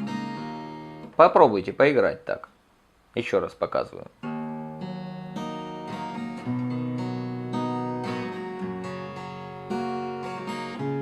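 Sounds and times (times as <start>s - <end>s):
acoustic guitar chords: 0.0s - 2.2s, 4.1s - 11.0s.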